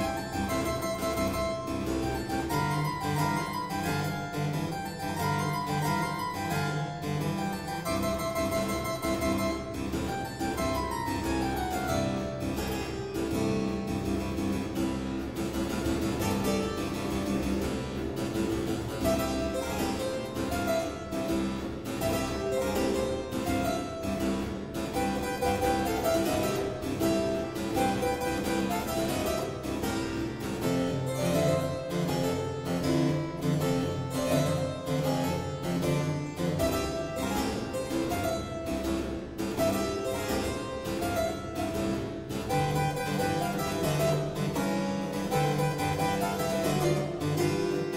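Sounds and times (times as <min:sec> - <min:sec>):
harpsichord boogie: 0:00.0 - 0:47.9.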